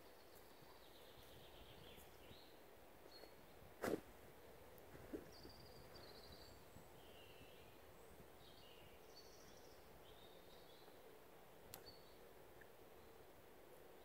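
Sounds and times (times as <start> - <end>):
faint bird chirps and trills: 0.0 - 14.0
low steady hiss: 0.0 - 14.0.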